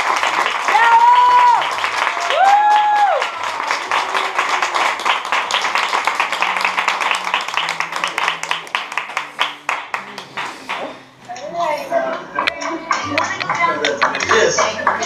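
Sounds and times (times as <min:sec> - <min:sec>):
people clapping: 0:00.0 - 0:11.5, 0:12.1 - 0:15.0.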